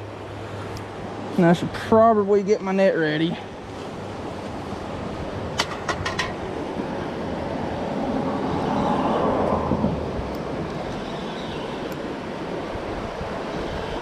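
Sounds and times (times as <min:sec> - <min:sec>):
rushing creek: 0:00.0 - 0:14.0.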